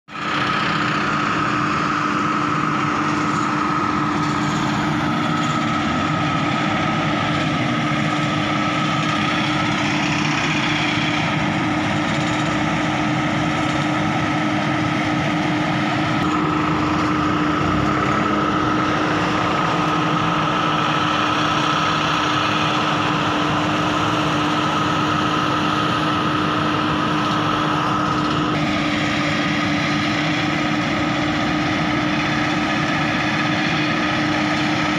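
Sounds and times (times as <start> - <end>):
high machinery whine: 0.1 - 34.9
tractor engine droning: 0.1 - 34.9.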